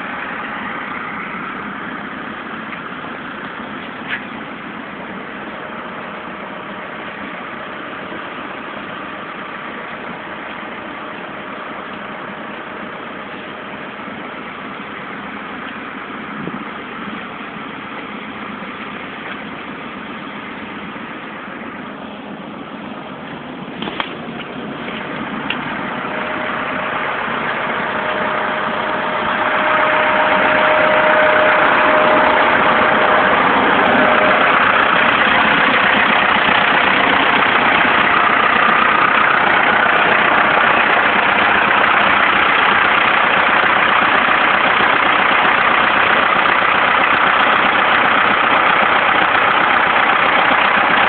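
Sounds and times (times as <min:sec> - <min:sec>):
tractor diesel engine idling: 0:00.0 - 0:51.0.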